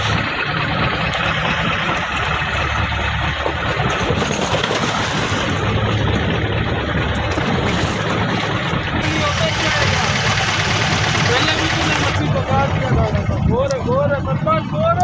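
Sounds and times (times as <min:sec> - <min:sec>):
boat engine humming: 0:00.0 - 0:15.0
wind and sea rushing: 0:00.0 - 0:15.0.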